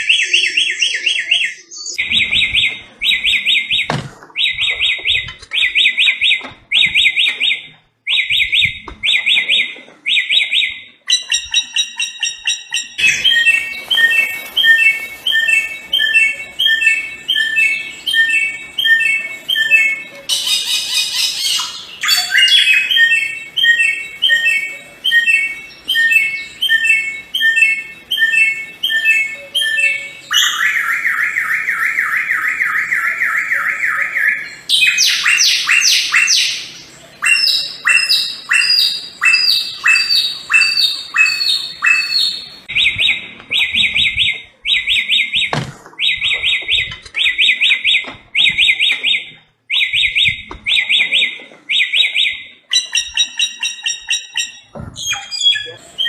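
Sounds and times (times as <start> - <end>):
bird singing chirping phrases: 0.0 - 56.0
bird trill: 0.0 - 56.0.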